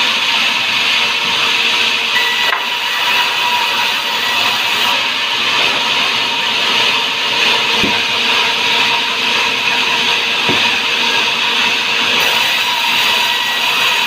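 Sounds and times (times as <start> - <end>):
sawmill saw whining: 0.0 - 14.0.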